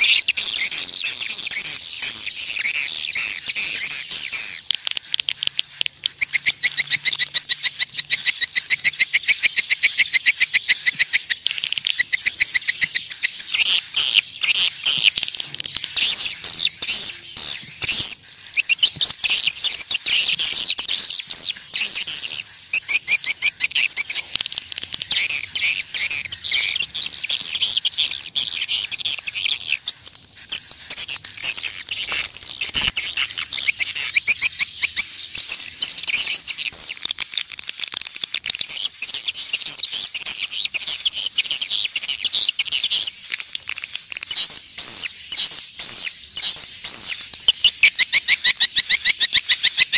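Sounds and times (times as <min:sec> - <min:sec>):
swiftlets chirping: 0:00.0 - 0:49.9.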